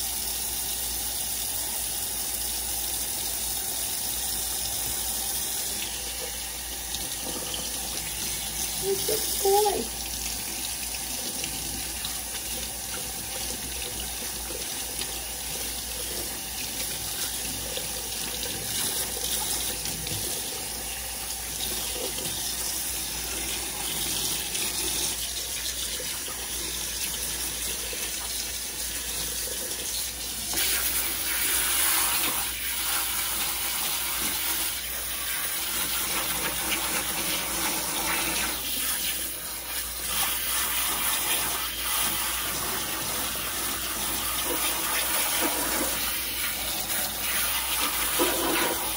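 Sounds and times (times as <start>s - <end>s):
faucet running into metal sink: 0.0s - 48.9s.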